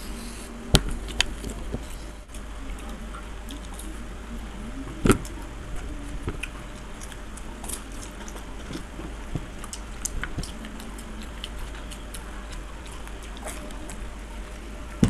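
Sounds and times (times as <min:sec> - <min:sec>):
steady low hum: 0:00.0 - 0:15.0
chewing and mouth sounds: 0:00.9 - 0:15.0.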